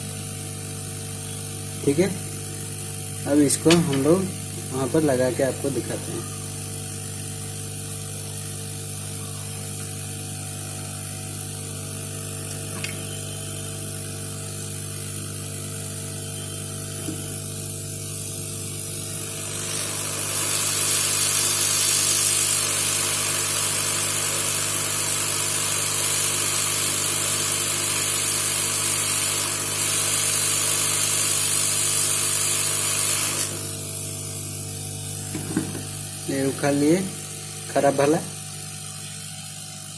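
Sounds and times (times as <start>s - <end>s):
hot-air blower motor hum: 0.0s - 39.9s.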